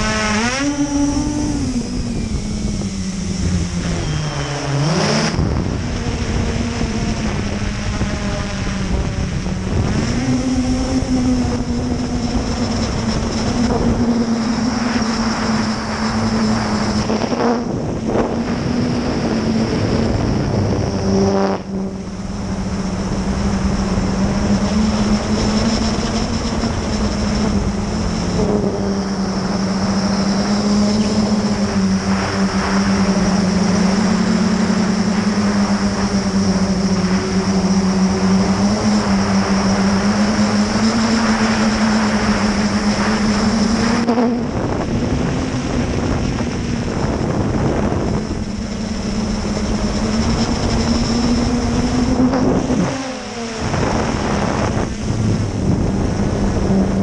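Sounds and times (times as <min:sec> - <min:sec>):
drone propellers buzzing: 0:00.0 - 0:57.0
wind rush: 0:00.0 - 0:57.0.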